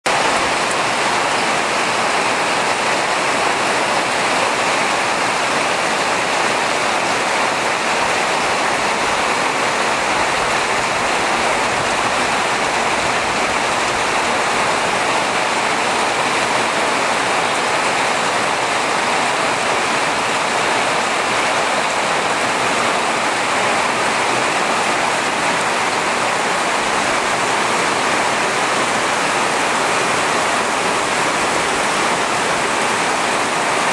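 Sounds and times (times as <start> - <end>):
rain falling: 0.1 - 33.9.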